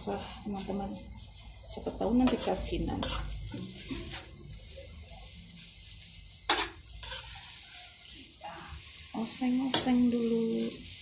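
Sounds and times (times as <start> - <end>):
metal spatula scraping a pan: 0.0 - 11.0
noodles sizzling in a wok: 0.0 - 11.0.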